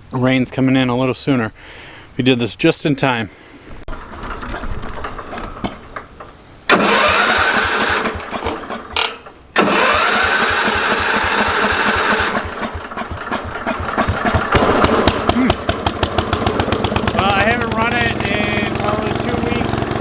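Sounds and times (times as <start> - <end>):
garden tractor engine: 3.9 - 20.0.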